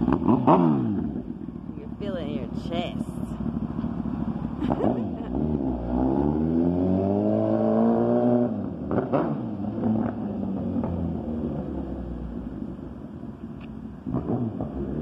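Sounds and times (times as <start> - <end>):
motorcycle engine revving: 0.0 - 2.1, 3.2 - 12.7, 14.0 - 15.0.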